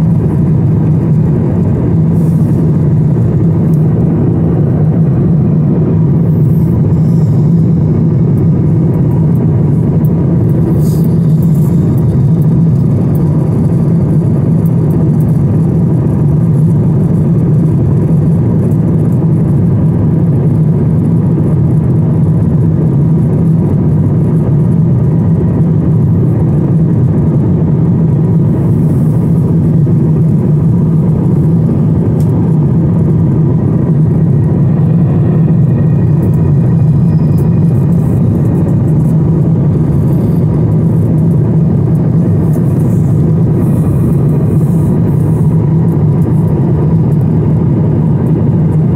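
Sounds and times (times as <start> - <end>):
jet airliner cabin rumble: 0.0 - 48.9.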